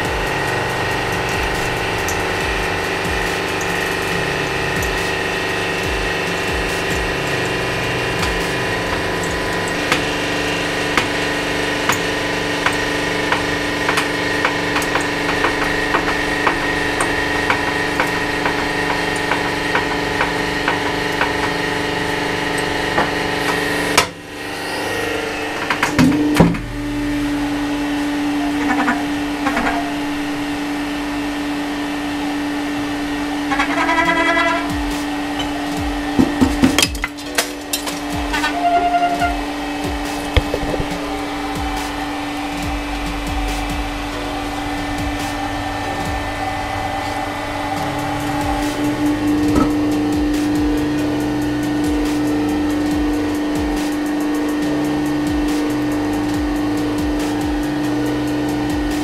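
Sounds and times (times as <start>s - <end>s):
hydraulic pump motor humming: 0.0s - 59.0s.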